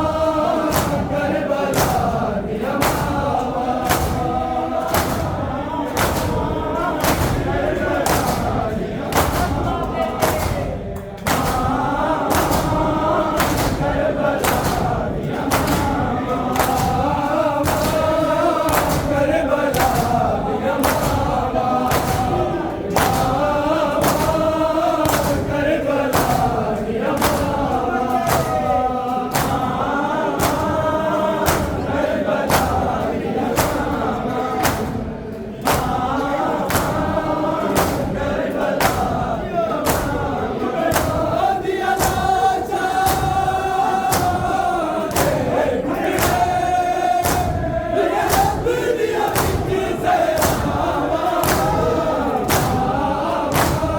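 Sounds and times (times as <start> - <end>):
men chanting in unison: 0.0 - 53.9
hands striking chests: 0.2 - 53.9.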